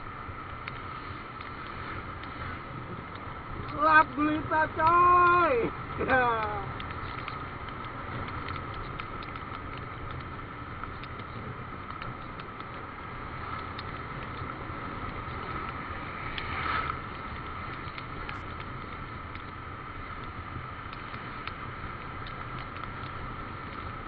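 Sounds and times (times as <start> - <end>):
thin steady whine: 0.0 - 23.2
motorcycle engine and road drone: 0.0 - 24.0
raindrops ticking on camera: 0.0 - 24.0.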